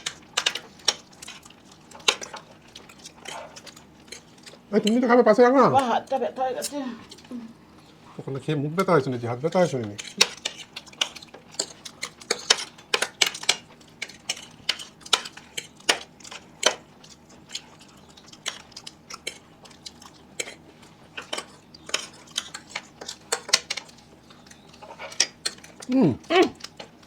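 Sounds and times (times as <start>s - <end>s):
utensils clinking on plates: 0.0s - 8.2s, 8.8s - 27.0s.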